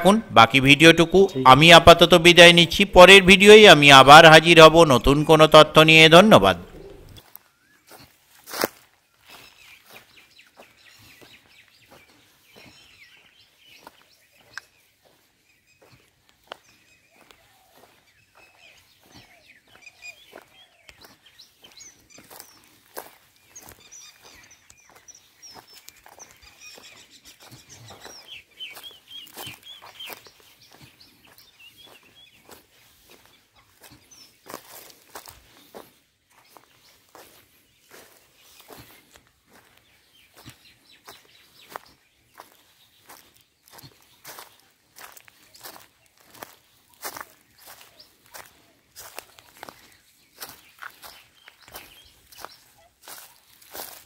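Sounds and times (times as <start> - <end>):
footsteps crunching on dry ground: 0.0 - 54.0
small birds twittering: 6.4 - 54.0.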